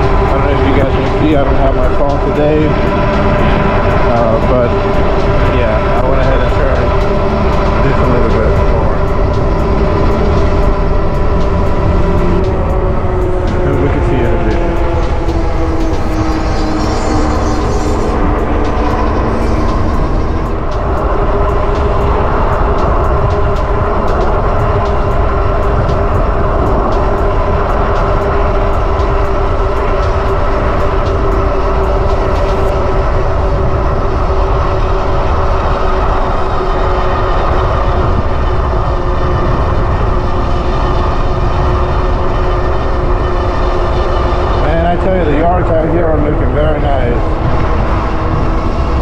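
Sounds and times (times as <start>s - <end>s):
hub motor whine: 0.0s - 49.0s
wind buffeting microphone: 0.0s - 49.0s.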